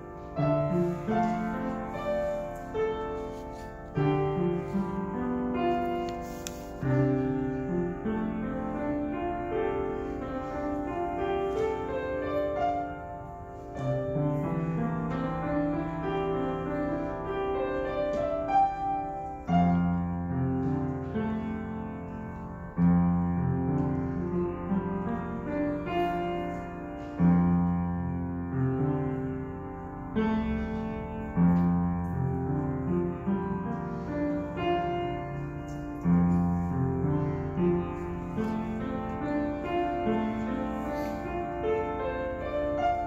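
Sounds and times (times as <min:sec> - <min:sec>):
deep piano bass chords: 0:00.0 - 0:43.0
solo piano melody: 0:00.0 - 0:43.0.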